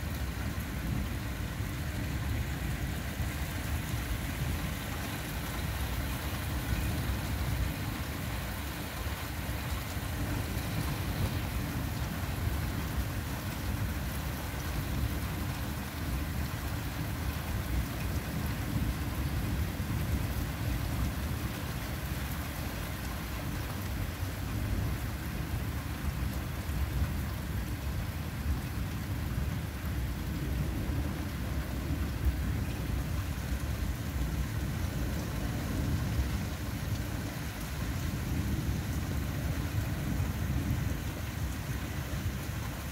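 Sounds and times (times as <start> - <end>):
low rumble of thunder: 0.0 - 42.9
steady rain: 0.0 - 42.9.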